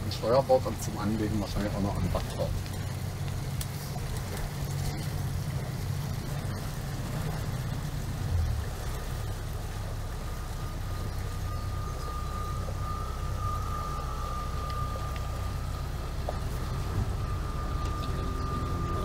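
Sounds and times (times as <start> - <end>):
faint high whine: 0.0 - 19.0
motorboat engine droning: 0.0 - 19.0
water and wind noise: 0.0 - 19.0.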